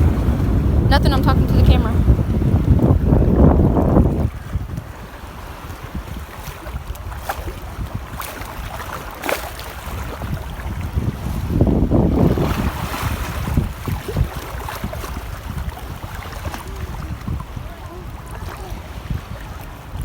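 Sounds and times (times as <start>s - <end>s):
shallow sea water sloshing: 0.0s - 20.0s
wind buffeting microphone: 0.0s - 20.0s.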